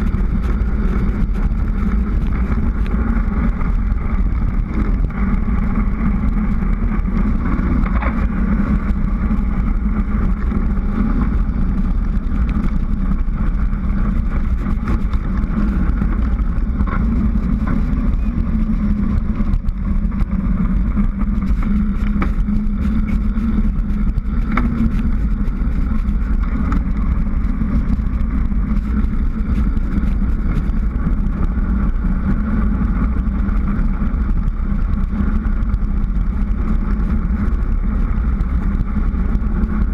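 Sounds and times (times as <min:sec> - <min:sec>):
road rumble: 0:00.0 - 0:39.9
wind rush: 0:00.0 - 0:39.9.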